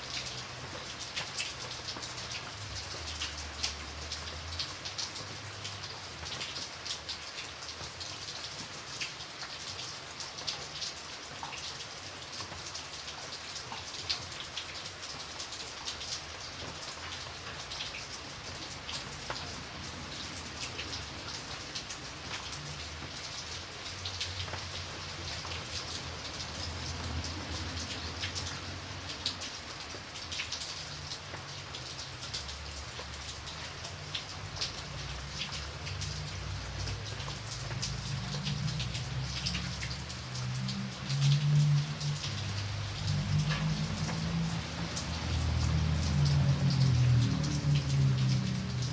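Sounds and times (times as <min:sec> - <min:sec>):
raindrops ticking on a surface: 0:00.0 - 0:48.9
steady rain: 0:00.0 - 0:48.9.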